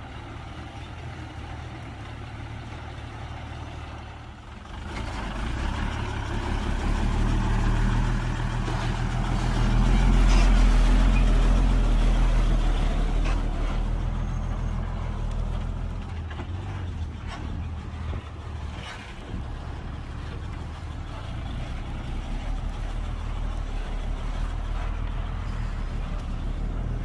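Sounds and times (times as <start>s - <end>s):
heavy diesel engine rumbling: 0.0s - 27.0s.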